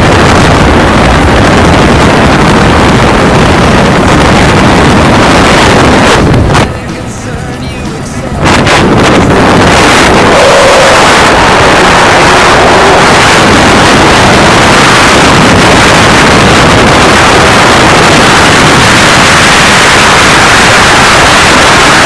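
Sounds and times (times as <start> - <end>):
helicopter cabin noise: 0.0 - 22.0.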